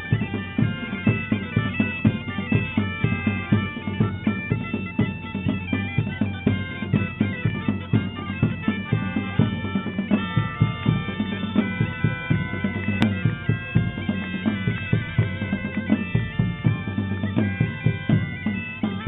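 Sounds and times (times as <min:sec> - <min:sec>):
bagpipes playing a melody: 0:00.0 - 0:19.0
steady drum beat: 0:00.0 - 0:19.0.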